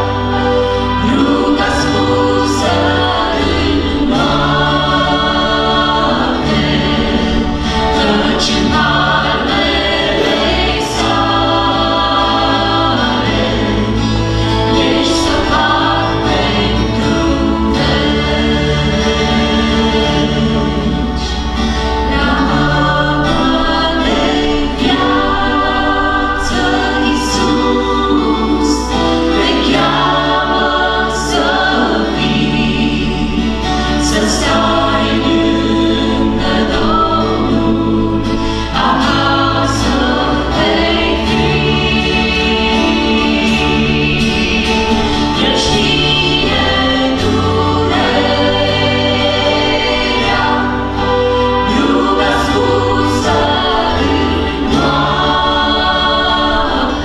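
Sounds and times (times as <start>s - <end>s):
acoustic guitar: 0.0s - 57.0s
electric bass guitar: 0.0s - 57.0s
mixed choir singing a hymn: 0.0s - 57.0s.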